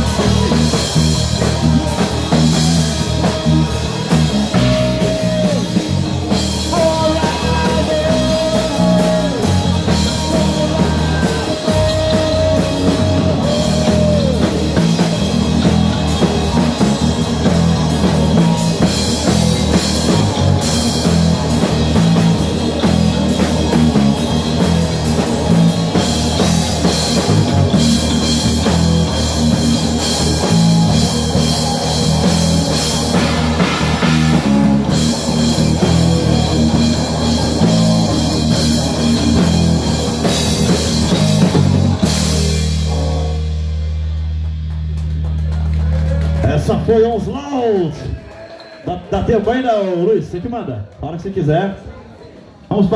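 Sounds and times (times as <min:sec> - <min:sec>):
heavy metal band playing live: 0:00.0 - 0:47.3.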